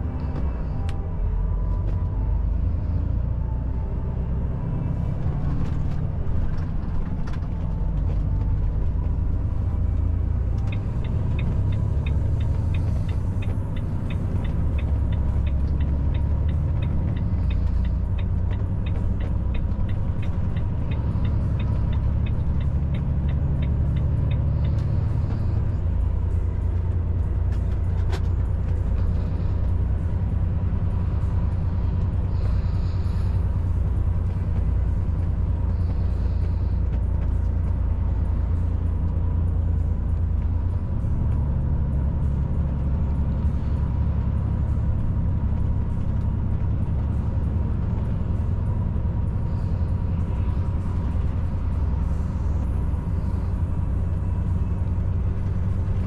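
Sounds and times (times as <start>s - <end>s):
truck engine and tyres rumbling: 0.0s - 56.0s
turn signal ticking: 5.6s - 56.0s.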